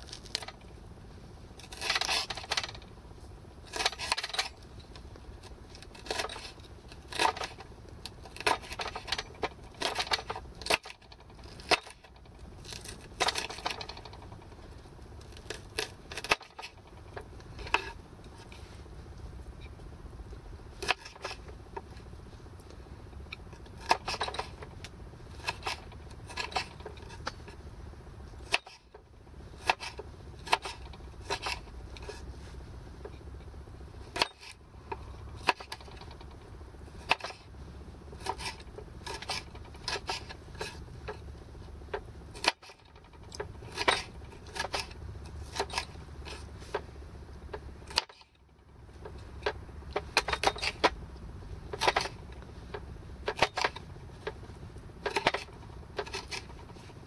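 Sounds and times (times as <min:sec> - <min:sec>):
low steady rumble: 0:00.0 - 0:57.0.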